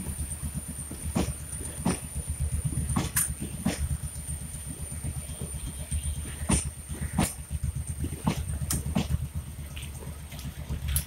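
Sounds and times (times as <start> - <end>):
wheel clacks over rail joints: 0.0 - 5.6, 6.2 - 11.0
train rumbling past: 0.0 - 9.6.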